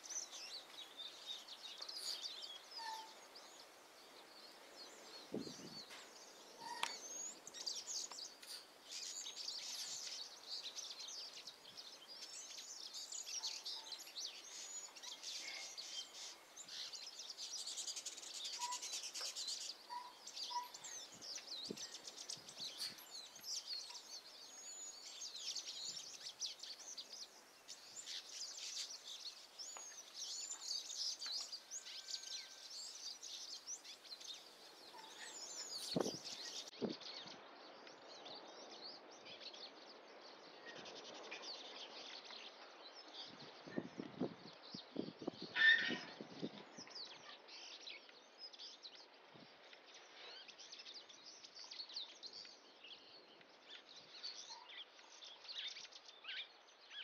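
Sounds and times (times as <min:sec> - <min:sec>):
faint outdoor hiss: 0:00.0 - 0:57.0
small birds chirping: 0:00.0 - 0:57.0.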